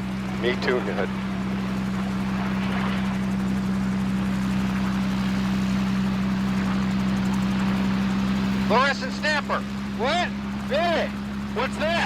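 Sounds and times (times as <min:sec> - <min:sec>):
helicopter drone: 0:00.0 - 0:12.0.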